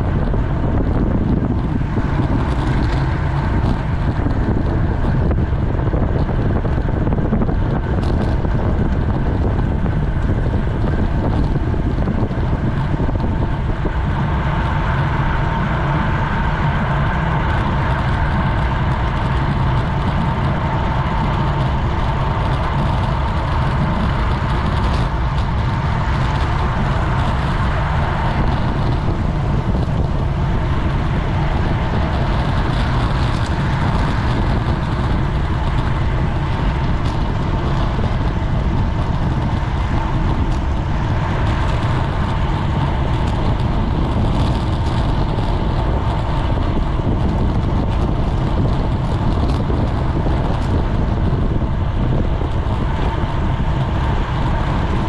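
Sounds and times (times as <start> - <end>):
bicycle tyre and road noise: 0.0 - 55.0
wind rush on microphone: 0.0 - 55.0.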